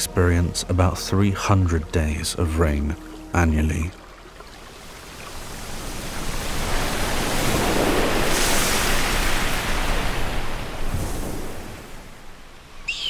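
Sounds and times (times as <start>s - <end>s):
waves breaking and churning: 0.0s - 13.0s.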